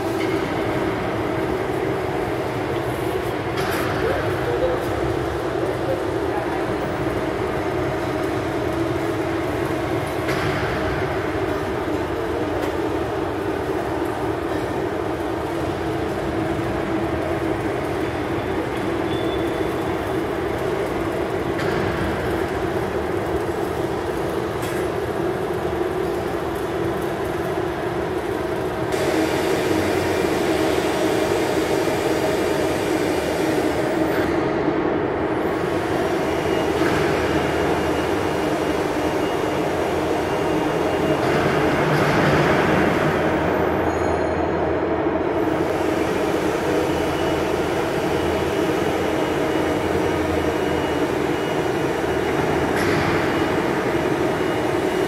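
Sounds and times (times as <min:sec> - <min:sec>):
hydraulic power unit humming: 0:00.0 - 0:43.5, 0:44.7 - 0:55.0.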